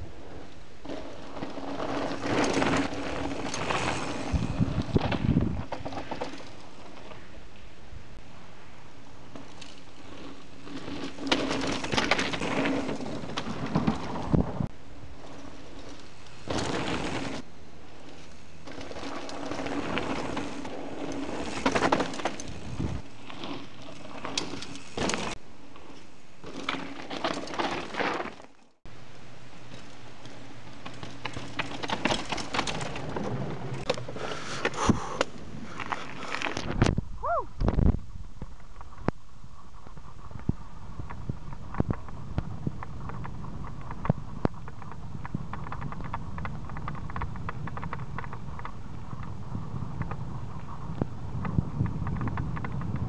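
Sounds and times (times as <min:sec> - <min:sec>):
bike tyres on dirt: 0:00.0 - 0:53.0.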